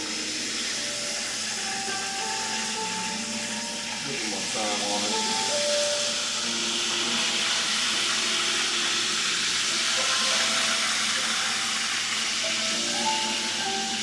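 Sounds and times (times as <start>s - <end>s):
chicken sizzling in a fryer: 0.0s - 14.0s
faint music: 0.0s - 14.0s.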